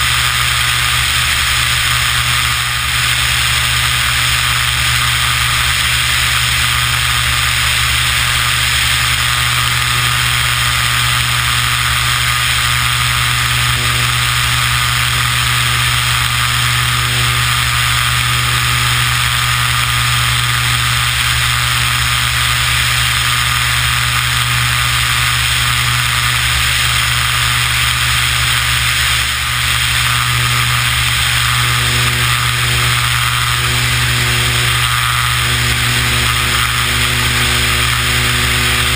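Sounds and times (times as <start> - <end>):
propeller engine droning: 0.0 - 38.9.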